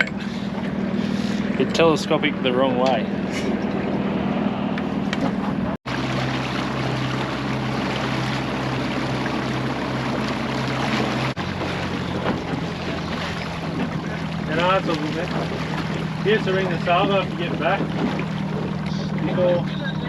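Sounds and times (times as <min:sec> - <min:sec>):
outboard motor running: 0:00.0 - 0:20.0
water noise: 0:00.0 - 0:20.0
wind: 0:00.0 - 0:20.0.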